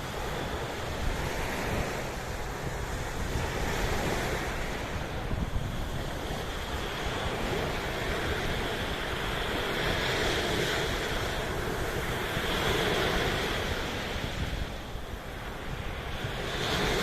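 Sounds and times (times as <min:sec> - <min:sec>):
sea surf washing: 0:00.0 - 0:17.0
wind buffeting microphone: 0:00.0 - 0:17.0.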